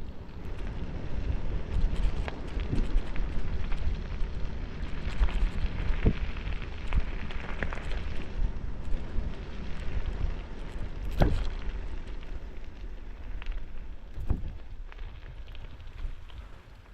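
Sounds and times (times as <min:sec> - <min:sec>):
bicycle wind and tyre rumble: 0:00.0 - 0:16.9
tyres crackling on rough road: 0:00.0 - 0:16.9.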